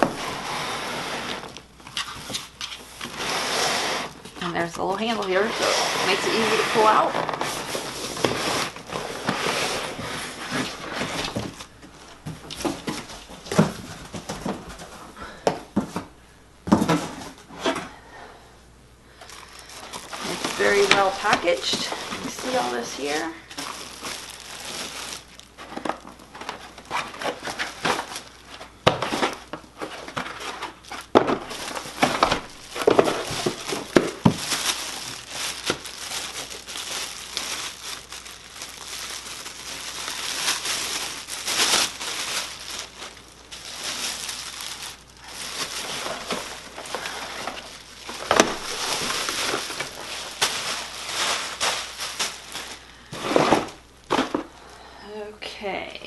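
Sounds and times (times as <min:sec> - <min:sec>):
plastic and cardboard crinkling: 0:00.0 - 0:18.0, 0:19.1 - 0:54.6.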